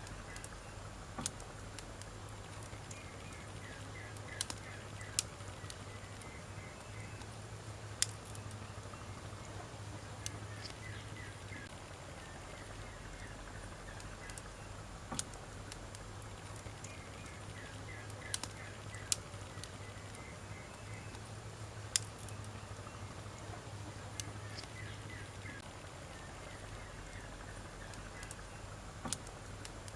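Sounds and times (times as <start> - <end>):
firewood popping: 0.0 - 29.9
low hiss: 0.0 - 29.9
wood fire crackling: 0.0 - 29.9.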